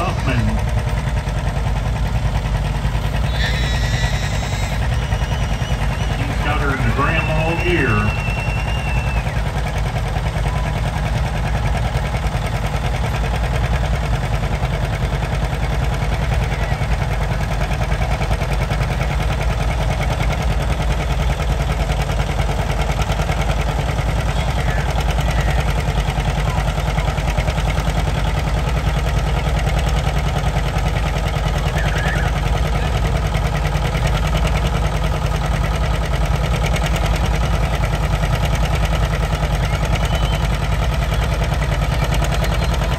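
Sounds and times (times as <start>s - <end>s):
tractor engine under heavy load: 0.0s - 42.9s.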